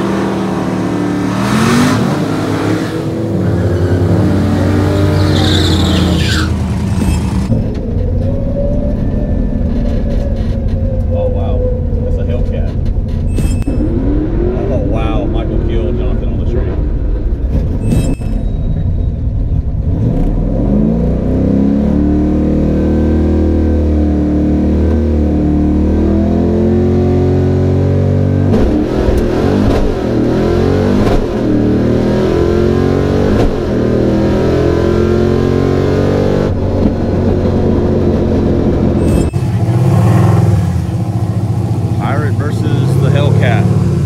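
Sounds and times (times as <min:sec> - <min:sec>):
car engine revving with gear shifts: 0:00.0 - 0:44.0.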